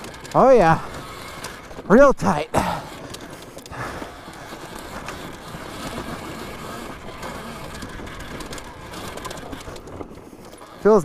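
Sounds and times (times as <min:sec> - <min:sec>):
drive chain clacking: 0:00.0 - 0:11.0
tyre and suspension noise: 0:00.0 - 0:11.0.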